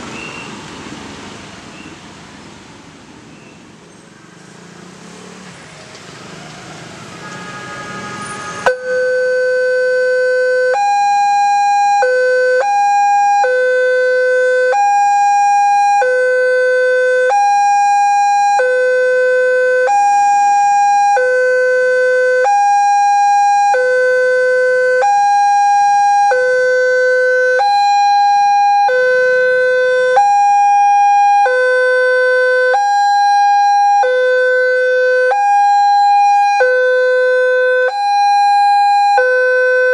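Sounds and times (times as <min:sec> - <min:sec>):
passing road traffic: 0:00.0 - 0:39.9
level crossing alarm two-tone signal: 0:07.2 - 0:39.9.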